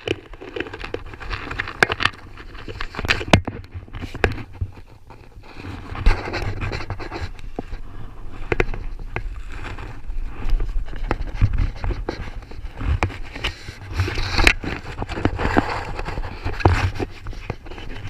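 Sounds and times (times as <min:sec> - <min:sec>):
scratching and scraping: 0:00.0 - 0:18.0.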